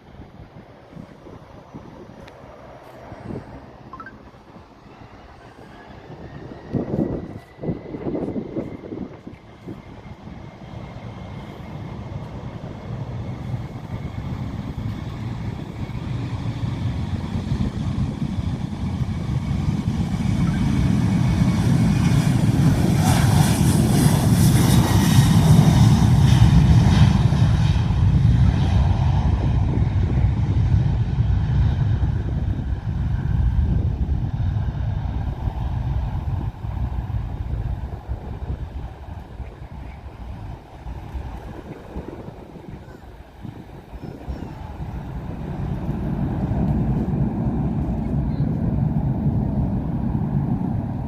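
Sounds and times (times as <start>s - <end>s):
airplane passing close by: 0.0s - 51.0s.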